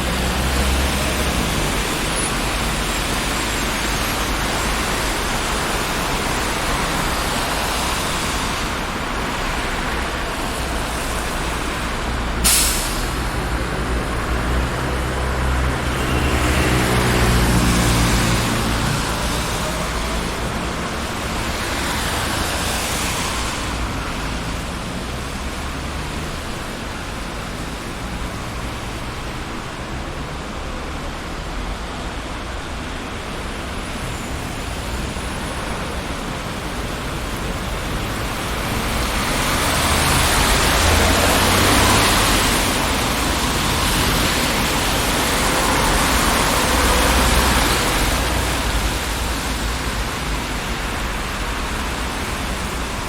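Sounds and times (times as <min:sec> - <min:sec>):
cars passing: 0:00.0 - 0:53.0
loud vehicles passing: 0:00.0 - 0:53.0.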